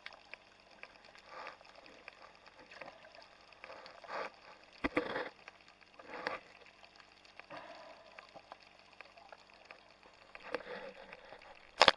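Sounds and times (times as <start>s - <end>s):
faint crackle: 0.0s - 11.9s
underwater swish and bubbles: 0.0s - 11.9s.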